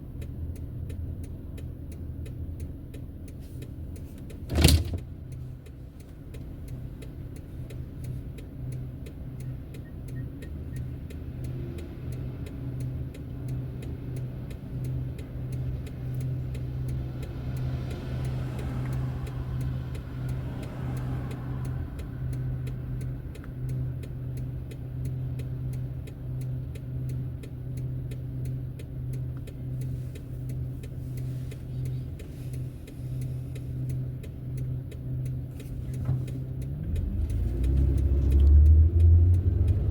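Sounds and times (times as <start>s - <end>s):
car engine and tyres humming: 0.0s - 39.9s.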